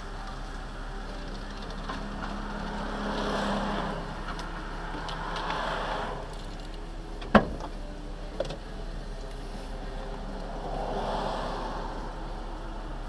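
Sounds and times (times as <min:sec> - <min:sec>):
passing cars: 0:00.0 - 0:13.0.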